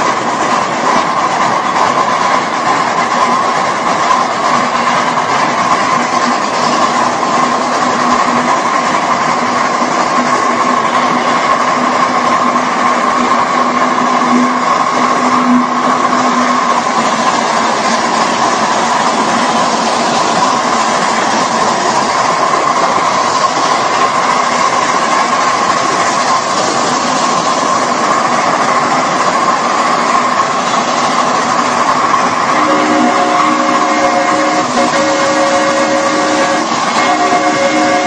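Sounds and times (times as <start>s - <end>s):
miniature steam train running: 0.0s - 38.0s.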